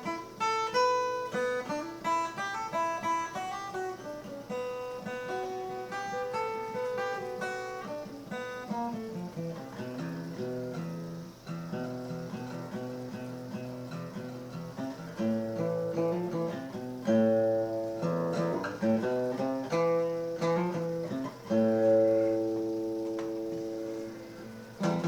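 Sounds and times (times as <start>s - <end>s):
guitar plucking melody: 0.0s - 25.0s.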